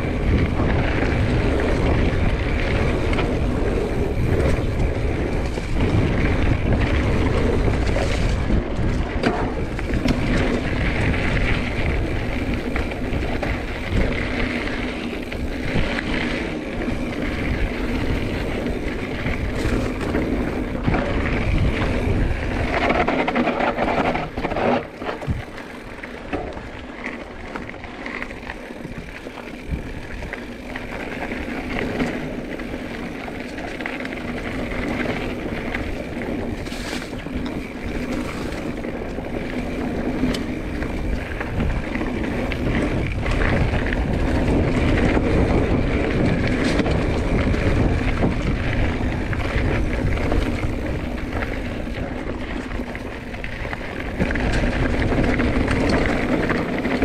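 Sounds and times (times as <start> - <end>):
bike tyre and frame noise: 0.0 - 57.0
wind buffeting microphone: 0.0 - 57.0.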